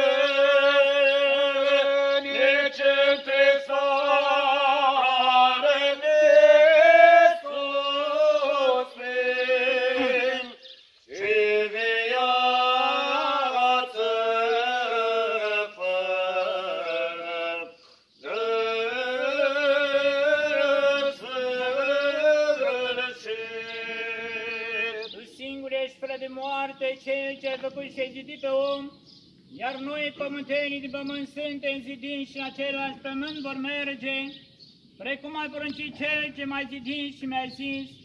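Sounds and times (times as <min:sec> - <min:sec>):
voices chanting: 0:00.0 - 0:34.4.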